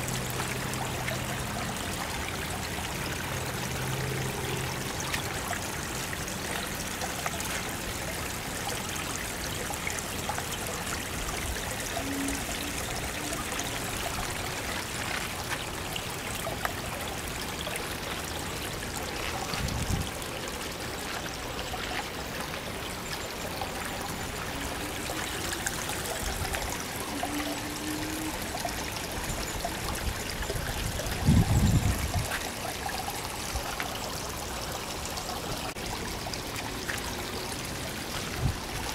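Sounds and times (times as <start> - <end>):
water trickling down waterfall: 0.0 - 38.9.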